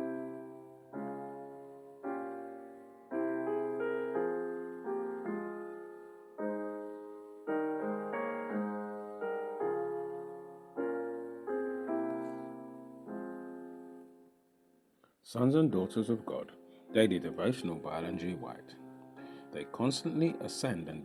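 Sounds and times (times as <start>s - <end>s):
slow solo piano music: 0.0s - 14.4s, 15.8s - 21.0s.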